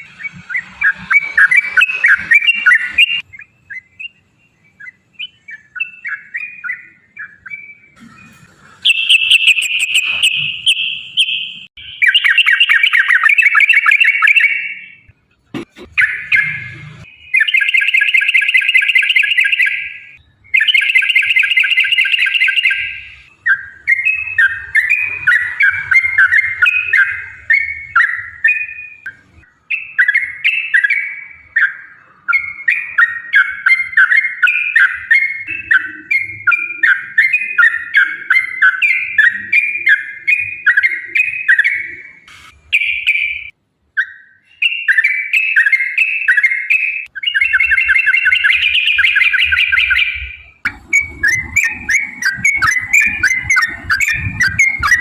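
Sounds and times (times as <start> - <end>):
bird singing quick phrases: 0.0 - 15.1, 15.8 - 55.0.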